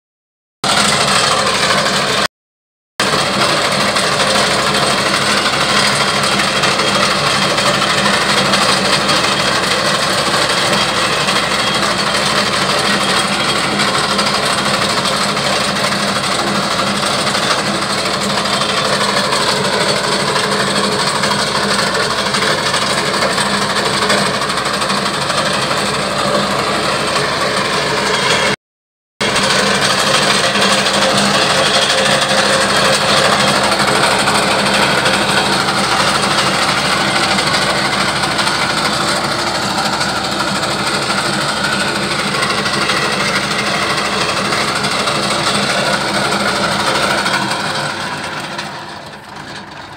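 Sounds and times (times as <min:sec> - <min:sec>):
cutter bar cutting crop: 0:00.6 - 0:02.3, 0:03.0 - 0:28.6, 0:29.2 - 0:49.9
tractor engine running: 0:00.6 - 0:02.3, 0:03.0 - 0:28.6, 0:29.2 - 0:49.9.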